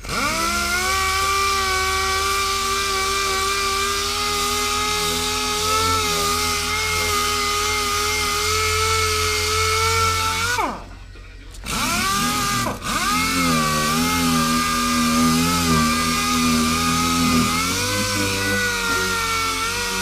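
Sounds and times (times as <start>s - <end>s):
power tool motor whine: 0.0s - 10.9s, 11.6s - 20.0s.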